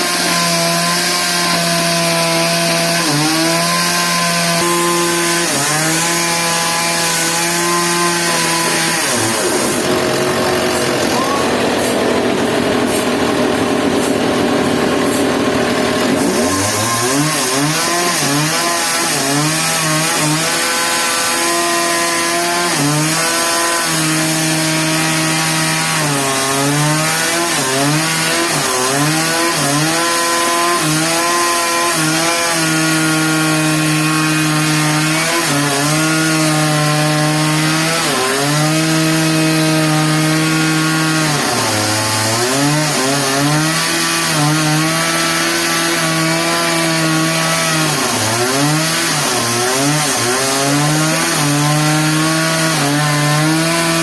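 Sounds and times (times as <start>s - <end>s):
engine saw cutting wood: 0.0s - 54.0s.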